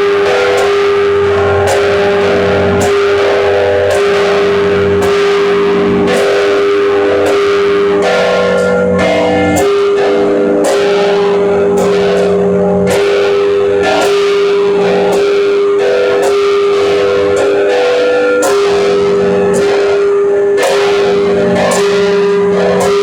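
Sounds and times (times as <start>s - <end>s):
church bells ringing: 0.0s - 23.0s
steady tone: 0.0s - 23.0s.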